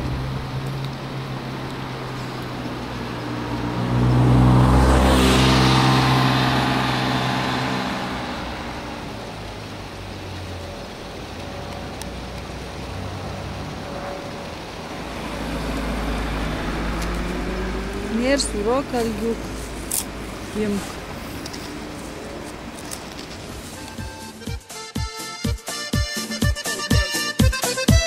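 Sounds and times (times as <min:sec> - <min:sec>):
vehicle driving past: 0:00.0 - 0:24.0
low engine hum: 0:00.0 - 0:24.5.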